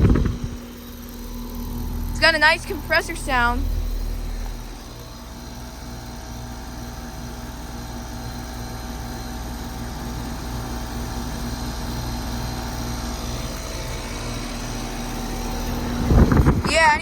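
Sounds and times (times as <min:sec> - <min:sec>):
compressor humming: 0:00.0 - 0:17.0
condenser fan rushing: 0:00.0 - 0:17.0.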